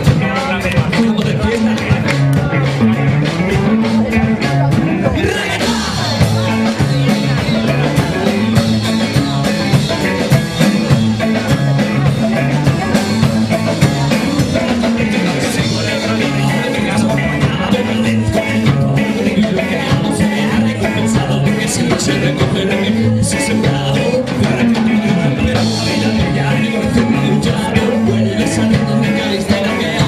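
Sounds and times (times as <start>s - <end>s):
live rock band playing: 0.0s - 30.0s
person singing: 0.0s - 30.0s.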